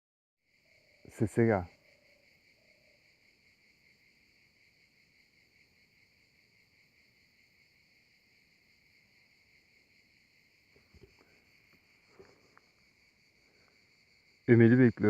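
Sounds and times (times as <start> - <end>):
insects chirring: 0.4 - 15.0.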